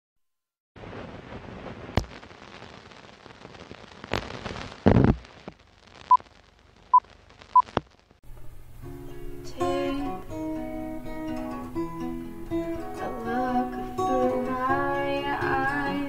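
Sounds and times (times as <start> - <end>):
crackling hiss with pops: 0.8 - 16.0.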